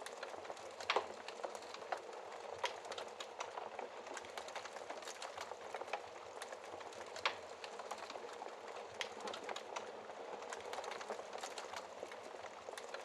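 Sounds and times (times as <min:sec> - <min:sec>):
logs crackling in fireplace: 0:00.0 - 0:13.0.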